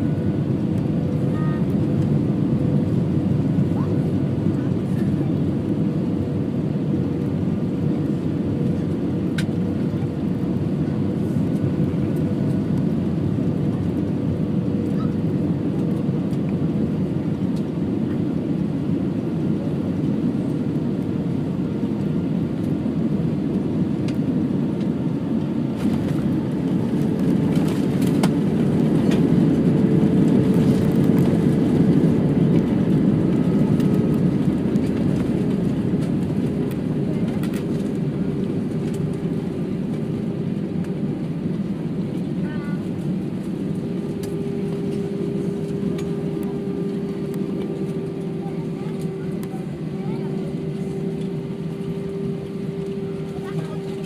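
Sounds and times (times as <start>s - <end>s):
airplane engine and airflow rumble: 0.0s - 54.0s.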